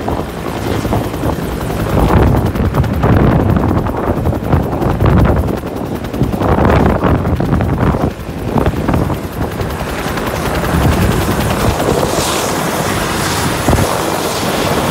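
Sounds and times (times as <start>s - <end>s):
helicopter running: 0.0s - 14.9s
wind buffeting microphone: 0.0s - 14.9s.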